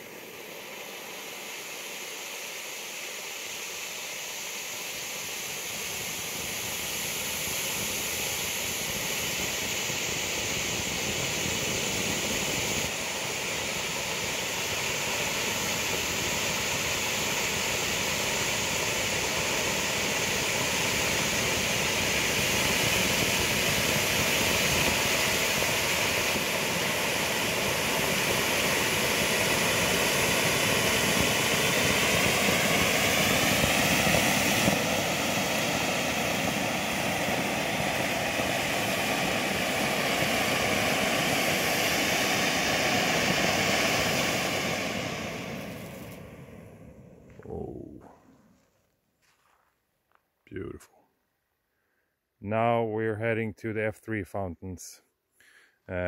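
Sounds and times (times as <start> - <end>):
firework fountains hissing: 0.0 - 48.2.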